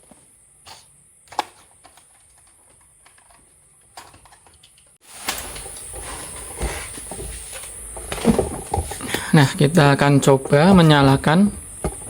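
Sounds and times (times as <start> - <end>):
background noise: 0.0 - 12.0.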